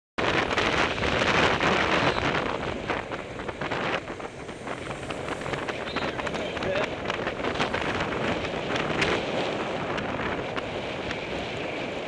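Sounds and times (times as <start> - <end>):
road and traffic noise: 0.2 - 12.0
wind buffeting microphone: 0.2 - 12.0.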